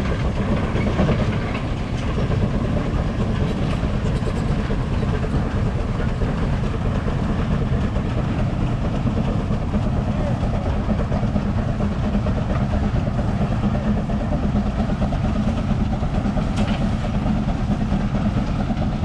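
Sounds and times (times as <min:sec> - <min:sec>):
steam traction engine running: 0:00.0 - 0:19.0.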